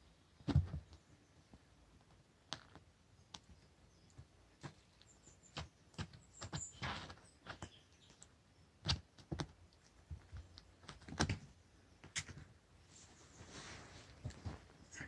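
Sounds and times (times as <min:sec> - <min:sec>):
kitten playing with toy on carpet: 0:02.0 - 0:15.0.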